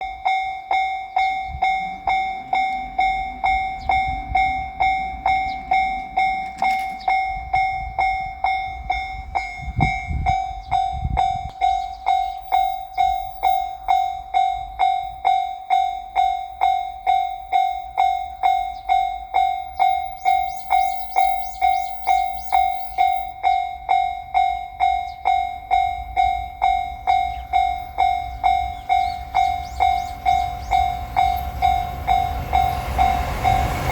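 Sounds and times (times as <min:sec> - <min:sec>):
level crossing warning bell: 0:00.0 - 0:33.9.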